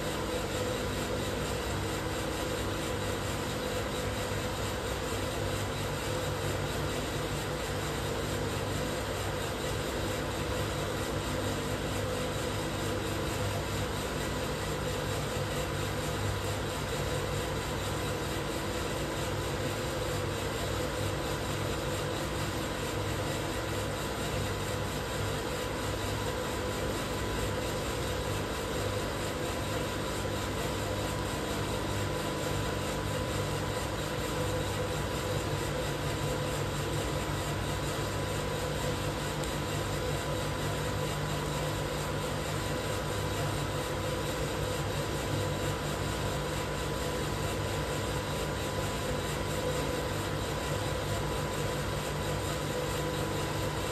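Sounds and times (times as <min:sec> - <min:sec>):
coffee roaster mechanical hum: 0:00.0 - 0:53.9.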